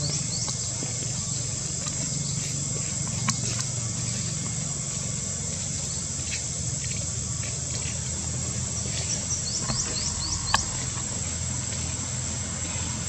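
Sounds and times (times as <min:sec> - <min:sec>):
high-pitched insect drone: 0:00.0 - 0:13.0
low steady hum: 0:00.0 - 0:13.0.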